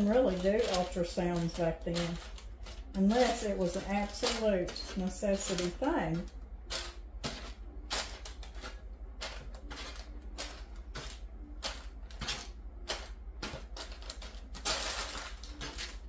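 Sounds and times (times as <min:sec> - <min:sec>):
low steady hum: 0:00.0 - 0:16.0
wrap and liner crinkling: 0:00.0 - 0:16.0.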